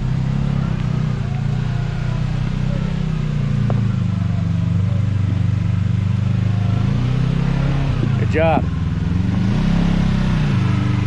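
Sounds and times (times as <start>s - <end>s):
engine running under throttle: 0.0s - 11.0s.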